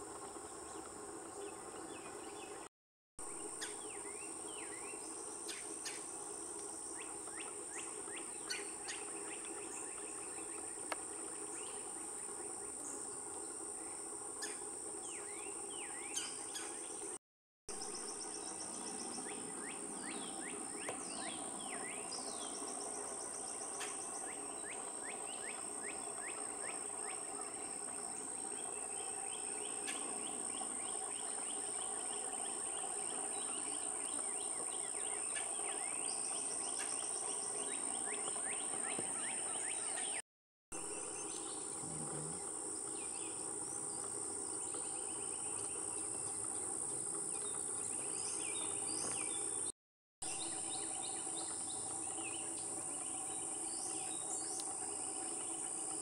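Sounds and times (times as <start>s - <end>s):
insect drone: 3.3s - 17.2s, 17.8s - 40.0s, 40.8s - 49.7s, 50.3s - 56.0s
songbirds chirping: 3.4s - 17.1s, 17.9s - 40.2s, 40.9s - 49.7s, 50.4s - 56.0s.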